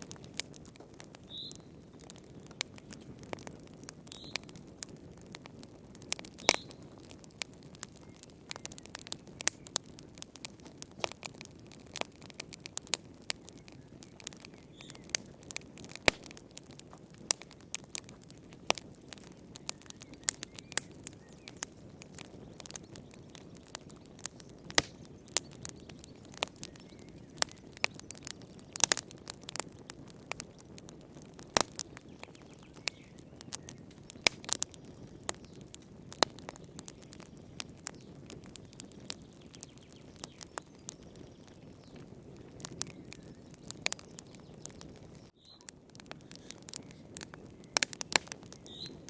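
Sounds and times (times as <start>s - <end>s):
low rush of flame: 0.0s - 39.6s
fire crackling and popping: 0.0s - 49.0s.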